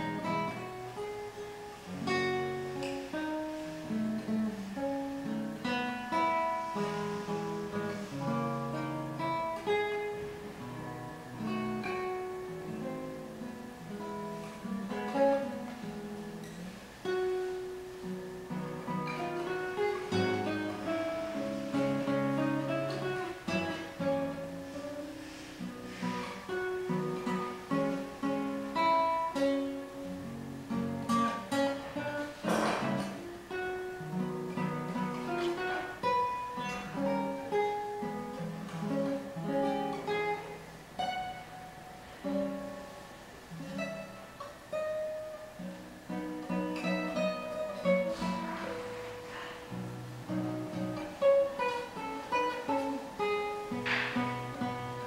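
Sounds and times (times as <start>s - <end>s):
solo guitar playing: 0.0s - 55.0s.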